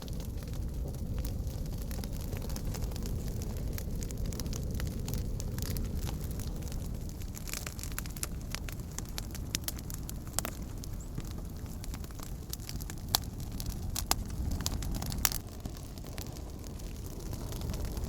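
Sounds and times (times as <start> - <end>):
campfire crackling and popping: 0.0 - 18.0
low rumble: 0.0 - 18.0.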